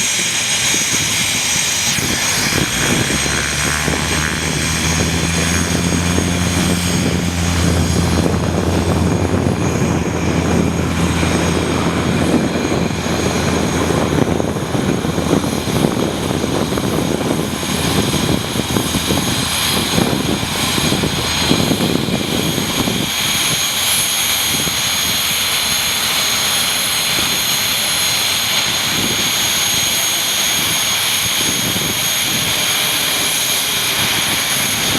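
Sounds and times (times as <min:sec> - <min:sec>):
aircraft engine and propeller: 0:00.0 - 0:34.9
broad rushing noise: 0:00.0 - 0:34.9.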